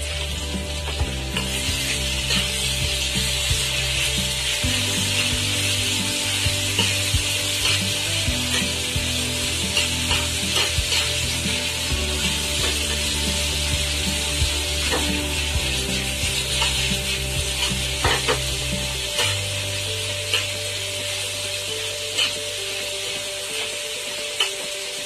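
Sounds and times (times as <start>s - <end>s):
utensil scraping a pan: 0.0s - 22.6s
vegetables sizzling in oil: 0.0s - 25.0s.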